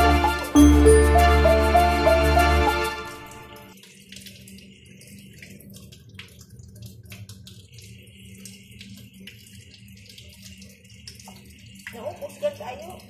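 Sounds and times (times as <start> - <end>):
water splashing in a metal sink: 1.6 - 13.0.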